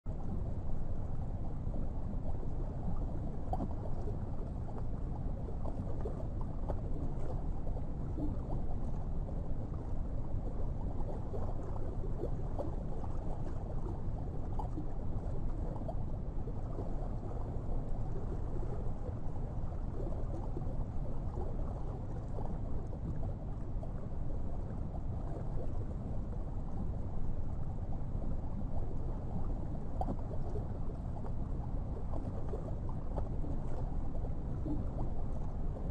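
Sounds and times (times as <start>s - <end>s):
low rumble of moving water: 0.0s - 35.9s
faint crackles: 0.1s - 35.9s.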